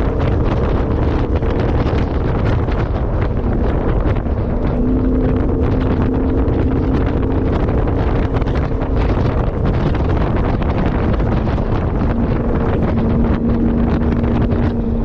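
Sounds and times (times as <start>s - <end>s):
faint engine hum: 0.0s - 15.0s
wind buffeting microphone: 0.0s - 15.0s.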